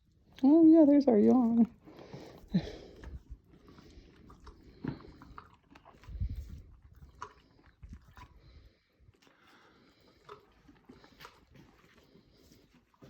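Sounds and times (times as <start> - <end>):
horse licking and chewing: 0.0 - 13.0.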